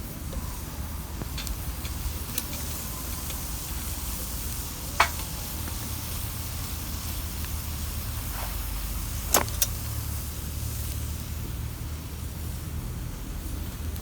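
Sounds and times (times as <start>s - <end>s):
fire crackling pops: 0.0s - 14.0s
wood fire hissing: 0.0s - 14.0s.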